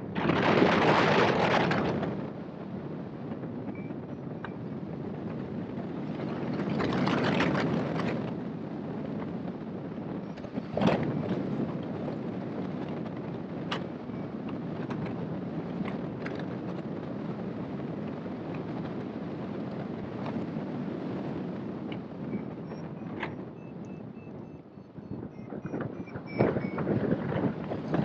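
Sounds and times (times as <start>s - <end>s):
wind rushing past camera: 0.0s - 28.0s.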